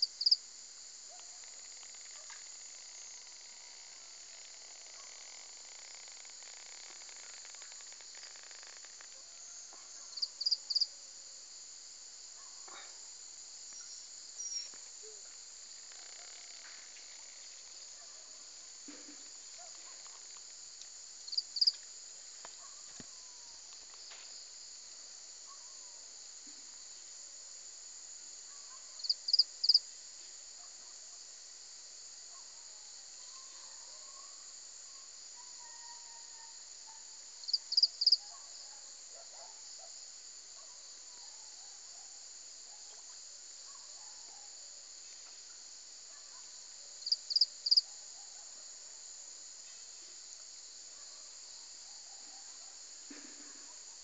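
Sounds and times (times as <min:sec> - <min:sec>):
chorus of crickets: 0:00.0 - 0:54.0.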